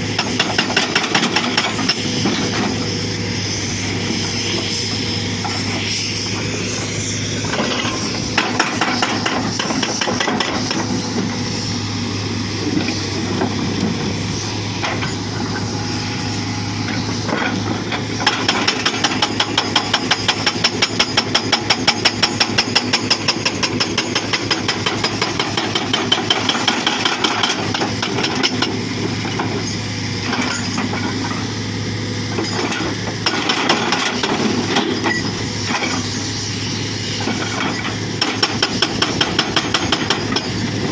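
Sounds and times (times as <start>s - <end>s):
hydraulic breaker hammering rock: 0.0s - 3.0s, 3.7s - 11.8s, 16.8s - 31.6s, 32.2s - 40.9s
excavator engine humming: 0.0s - 40.9s.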